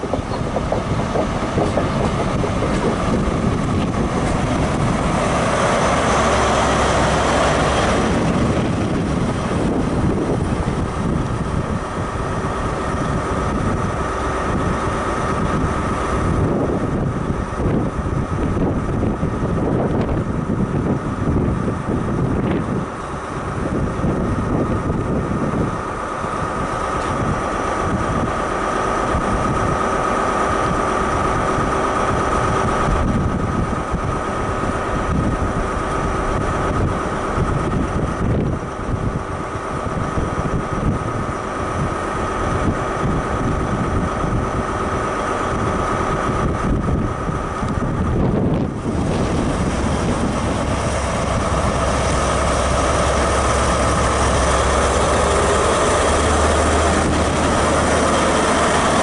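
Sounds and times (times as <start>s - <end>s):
diesel locomotive idling hum: 0.0s - 59.0s
diesel train moving slowly: 0.0s - 59.0s
high whine: 0.0s - 59.0s
wind buffeting microphone: 0.0s - 59.0s.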